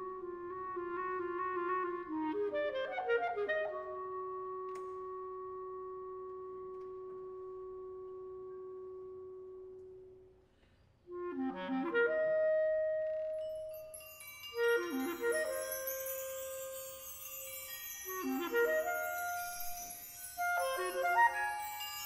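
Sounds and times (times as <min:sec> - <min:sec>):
solo clarinet: 0:00.0 - 0:10.4, 0:11.1 - 0:13.9, 0:14.5 - 0:22.0.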